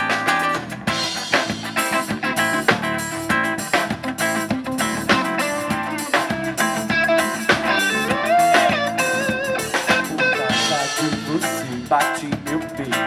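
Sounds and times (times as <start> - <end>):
electric guitar lead melody: 0.0 - 11.8
bass: 0.0 - 13.0
drum kit: 0.0 - 13.0
strummed guitar: 0.0 - 13.0.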